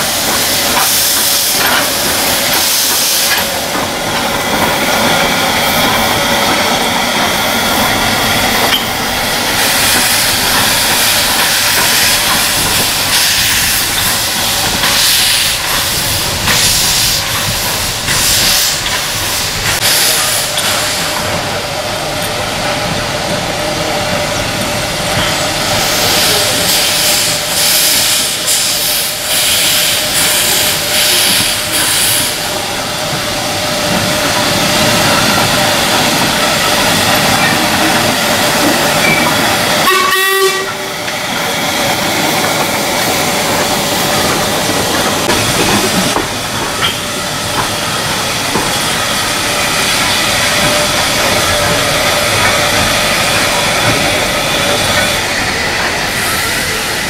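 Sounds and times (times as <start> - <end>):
steam locomotive hissing steam: 0.0 - 57.0.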